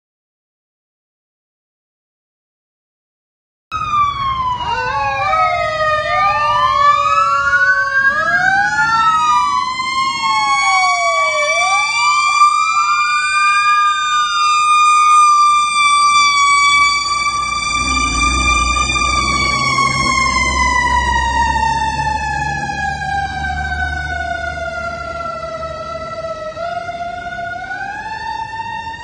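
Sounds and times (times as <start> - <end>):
emergency sirens wailing: 3.7 - 29.0
truck engine rumble: 3.8 - 29.0.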